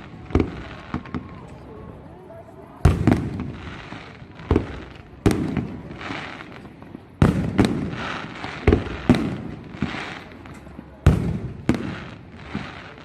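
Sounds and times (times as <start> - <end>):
fireworks hissing and crackling: 0.0 - 13.0.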